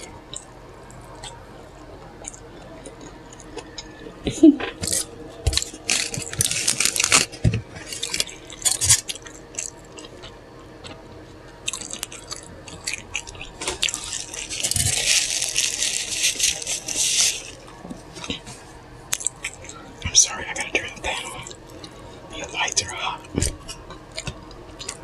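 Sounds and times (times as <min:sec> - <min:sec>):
person chewing a burger: 0:00.0 - 0:01.4, 0:02.2 - 0:04.0, 0:04.7 - 0:25.0
crackly noise: 0:00.0 - 0:25.0.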